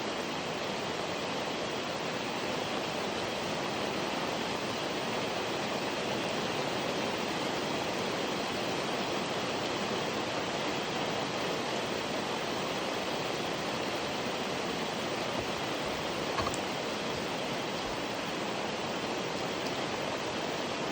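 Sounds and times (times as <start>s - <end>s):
rain falling: 1.8s - 20.9s.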